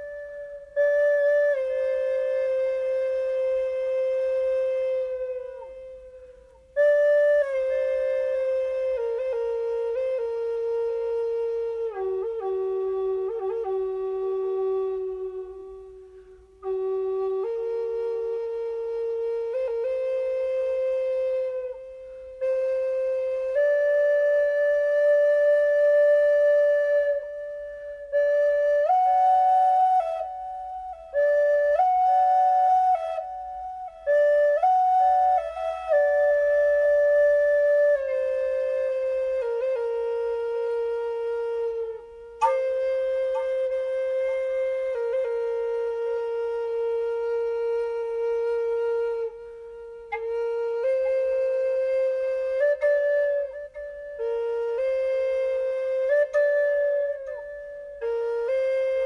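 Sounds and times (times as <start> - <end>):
solo flute melody: 0.0 - 59.0.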